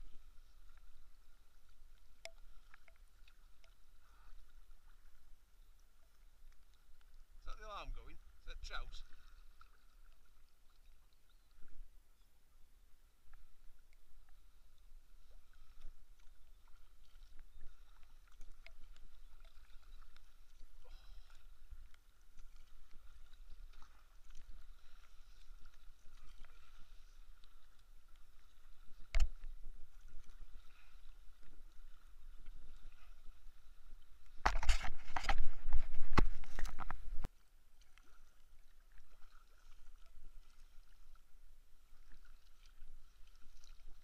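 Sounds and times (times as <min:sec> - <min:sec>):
paddle splashing in water: 0:00.0 - 0:12.0, 0:13.3 - 0:44.0
water lapping at hull: 0:00.0 - 0:44.0.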